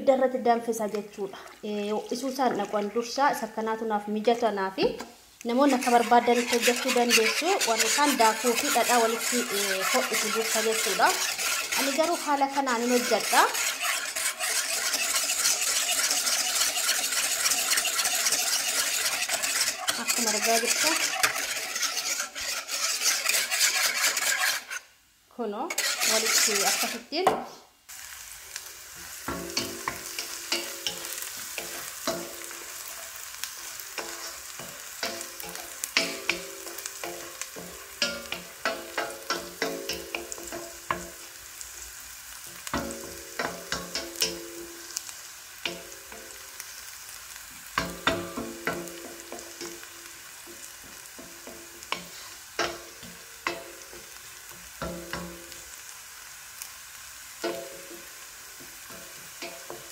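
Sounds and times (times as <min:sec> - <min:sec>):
food sizzling in oil: 0:00.0 - 0:59.9
metal spoon scraping a pan: 0:05.0 - 0:24.9, 0:25.6 - 0:27.2, 0:28.5 - 0:41.6, 0:42.4 - 0:55.6, 0:57.4 - 0:59.9.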